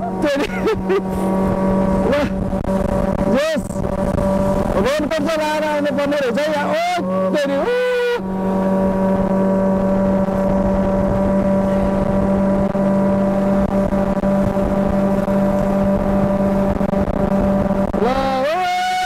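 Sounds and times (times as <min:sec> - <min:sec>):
wind buffeting microphone: 0:00.0 - 0:05.9, 0:08.2 - 0:18.0
motorboat engine running: 0:00.0 - 0:19.0.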